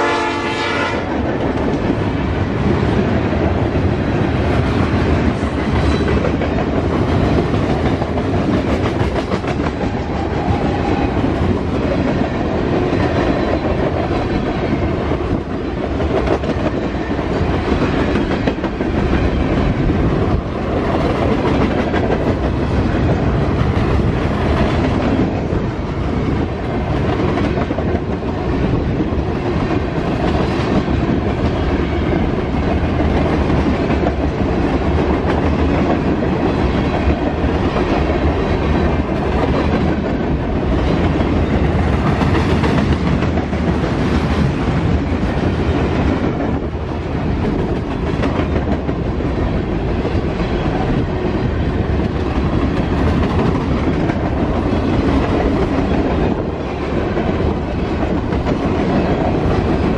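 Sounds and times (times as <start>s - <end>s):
clickety-clack over rail joints: 0.0s - 59.9s
train wheels rumbling on rail: 0.0s - 59.9s.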